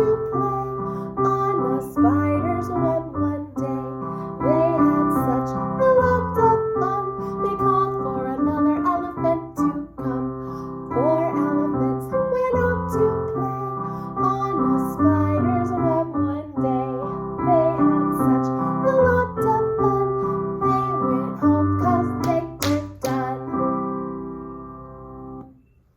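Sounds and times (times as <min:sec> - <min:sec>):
piano: 0:00.0 - 0:25.9.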